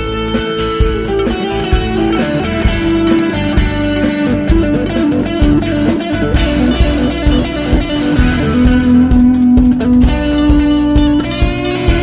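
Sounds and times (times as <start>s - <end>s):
bass guitar: 0.0s - 12.0s
electric guitar held notes: 0.0s - 12.0s
steady drum beat: 0.0s - 12.0s.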